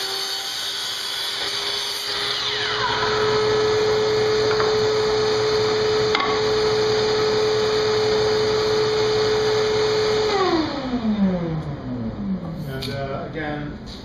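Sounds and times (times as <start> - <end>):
dust extractor humming: 0.0 - 12.6.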